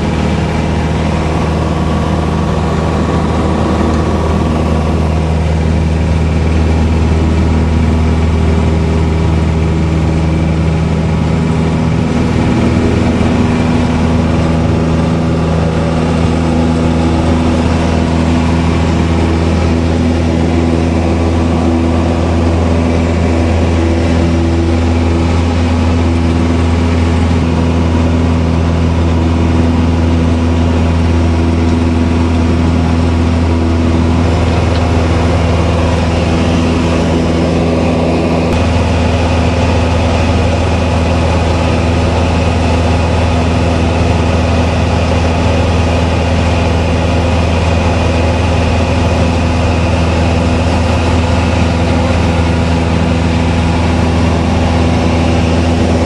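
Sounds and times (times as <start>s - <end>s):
aircraft engine drone in cabin: 0.0s - 56.0s.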